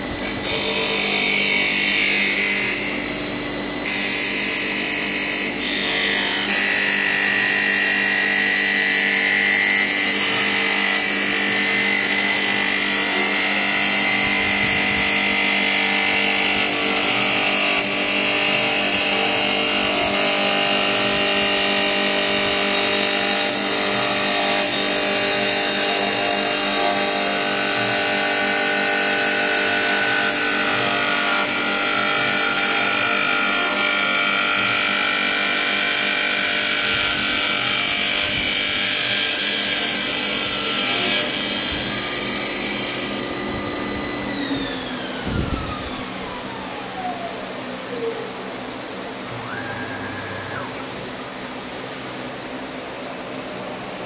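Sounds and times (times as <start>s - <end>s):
wood lathe machine whine: 0.0s - 54.0s.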